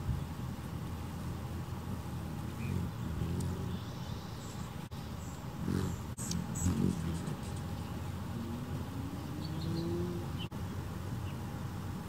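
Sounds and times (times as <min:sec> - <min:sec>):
hummingbird wing hum: 0:00.0 - 0:12.0.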